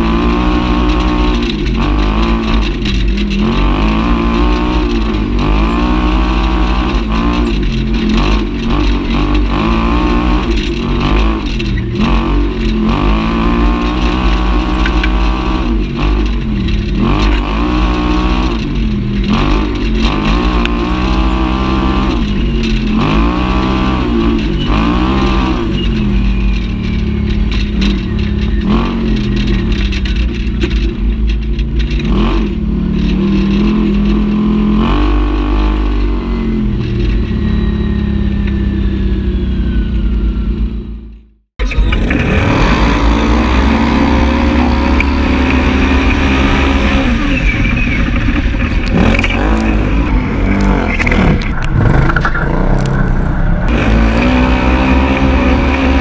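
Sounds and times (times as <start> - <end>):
utv engine revving: 0.0 - 56.0.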